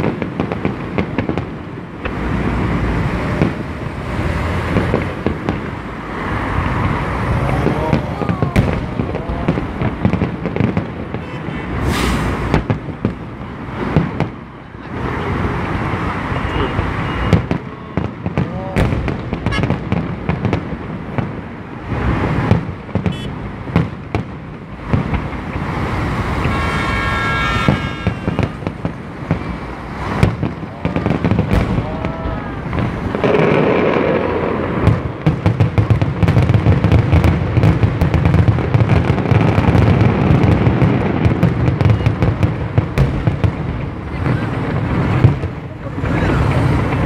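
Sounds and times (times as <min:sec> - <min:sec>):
fireworks bursting with bangs: 0:00.0 - 0:47.0.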